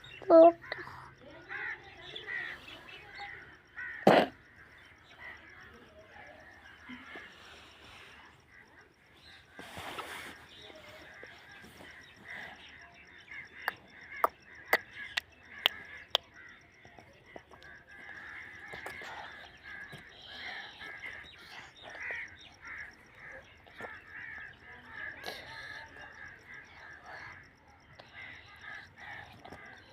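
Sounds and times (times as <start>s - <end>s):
birds calling: 0.0s - 29.9s.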